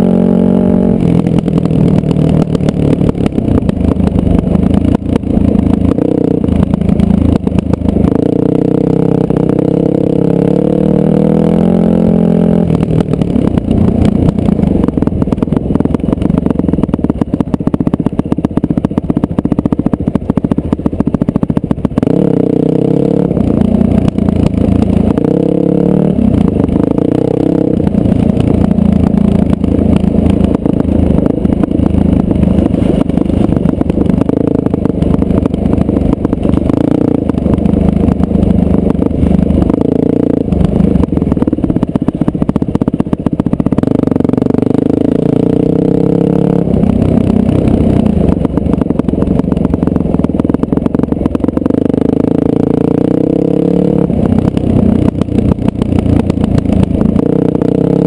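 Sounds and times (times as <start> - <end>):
dirt bike engine revving: 0.0 - 18.0, 21.2 - 58.0.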